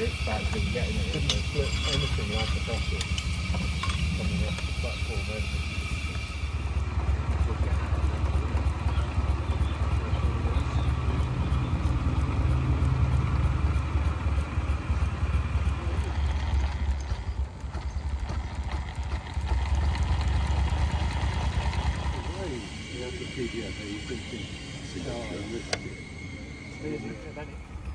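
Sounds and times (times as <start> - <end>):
model steam locomotive running: 0.0 - 27.9.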